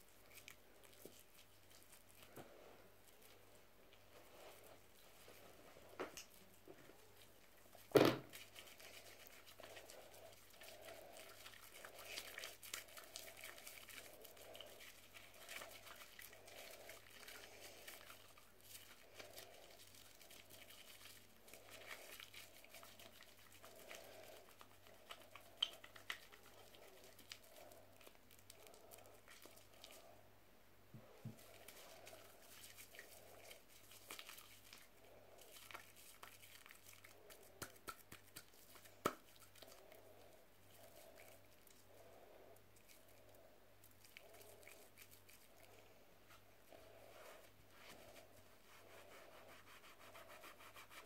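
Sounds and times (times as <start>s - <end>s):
sponge squeezed in soap foam: 4.0s - 30.2s, 31.2s - 41.9s, 42.6s - 51.0s.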